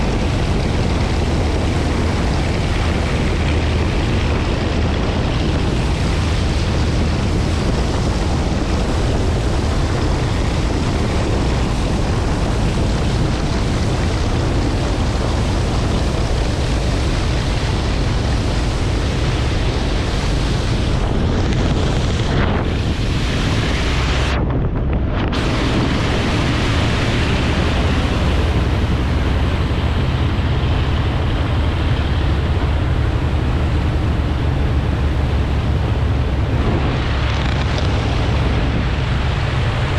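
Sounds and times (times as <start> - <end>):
low engine drone: 0.0 - 39.9
rushing water: 0.0 - 39.9
wind buffeting microphone: 0.0 - 39.9.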